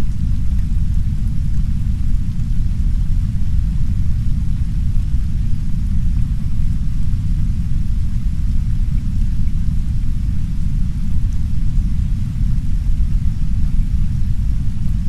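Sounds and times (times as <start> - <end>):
deep brown noise rumble: 0.0 - 15.0
soft rain hissing: 0.0 - 15.0.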